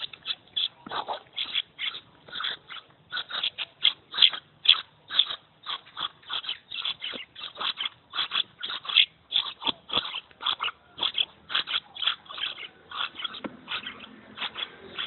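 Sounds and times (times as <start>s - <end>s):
bird chicks chirping: 0.0s - 15.0s.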